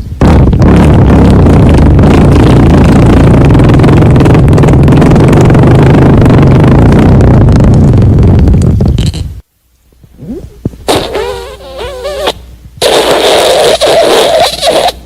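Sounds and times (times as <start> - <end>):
loud raspy fart: 0.0 - 9.4, 10.1 - 15.0.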